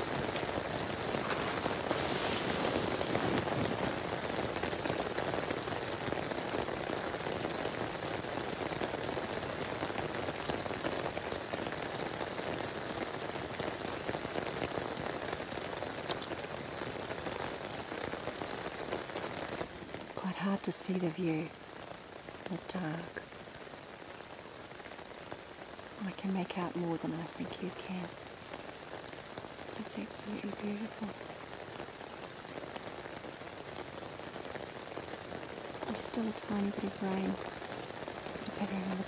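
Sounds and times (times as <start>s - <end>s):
rain falling on a tarp: 0.0s - 39.0s.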